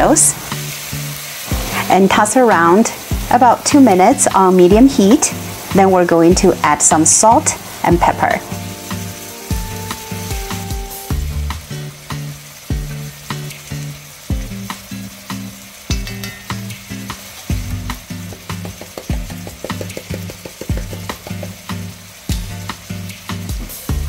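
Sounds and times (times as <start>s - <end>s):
background music with steady beat: 0.0s - 6.8s, 7.4s - 24.0s
food sizzling in hot oil: 0.0s - 24.0s.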